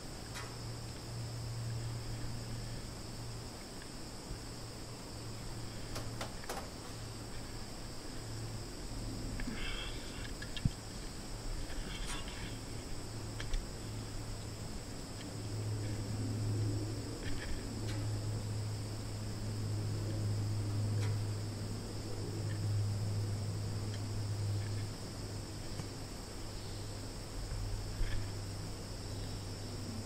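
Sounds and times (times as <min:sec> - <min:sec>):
insect chirring: 0:00.0 - 0:30.0
low steady hum: 0:00.0 - 0:30.0.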